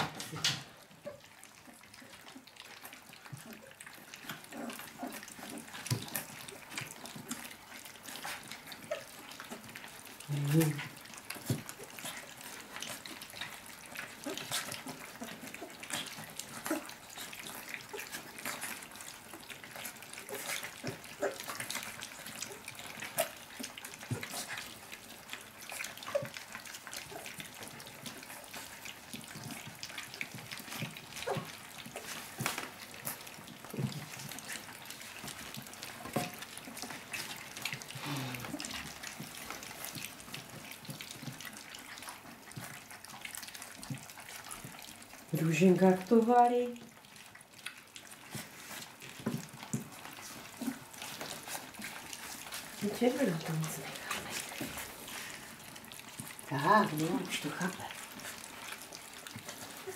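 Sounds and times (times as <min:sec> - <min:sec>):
puppies lapping and slurping food: 0:00.0 - 0:59.9.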